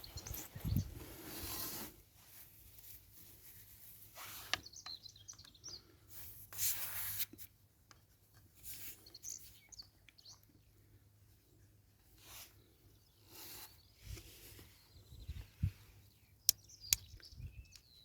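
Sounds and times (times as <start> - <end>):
small birds chirping: 0.0 - 1.9, 2.8 - 6.6, 8.6 - 18.0.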